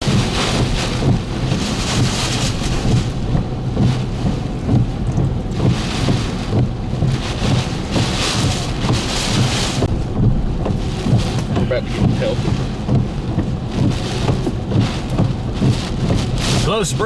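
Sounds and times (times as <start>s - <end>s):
driving rain: 0.0s - 17.0s
hurricane-force wind gusts: 0.0s - 17.0s
wind buffeting microphone: 0.0s - 17.0s.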